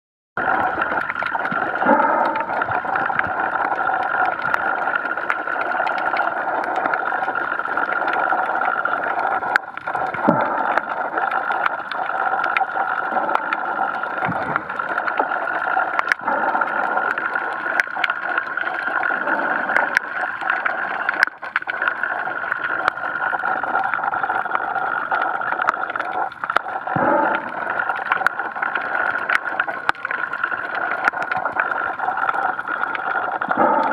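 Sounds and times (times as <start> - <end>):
short gurgles: 0.4 - 33.9
underwater drone with high tone: 0.4 - 33.9.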